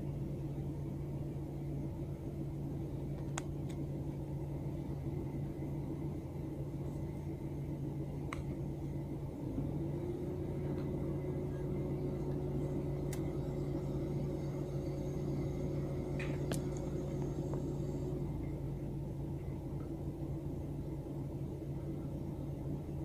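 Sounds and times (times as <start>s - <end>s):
low hum in car cabin: 0.0s - 23.0s.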